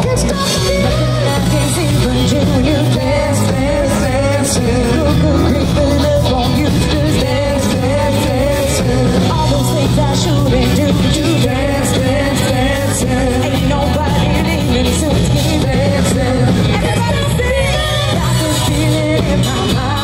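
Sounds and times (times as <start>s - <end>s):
live rock band playing: 0.0s - 20.0s
woman singing: 0.0s - 20.0s.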